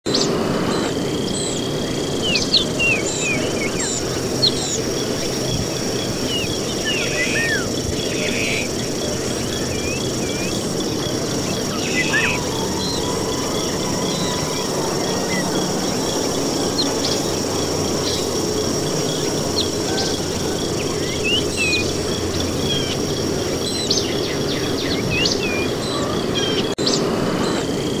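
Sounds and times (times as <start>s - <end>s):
high insect-like buzz: 0.1s - 26.5s
chirps and whistles: 0.1s - 28.0s
steady low whistle: 0.5s - 26.7s.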